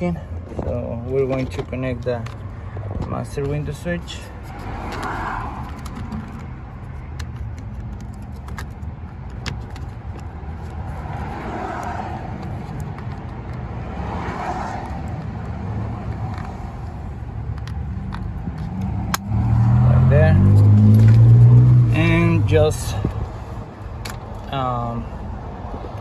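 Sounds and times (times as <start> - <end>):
low vehicle rumble: 0.0 - 26.0.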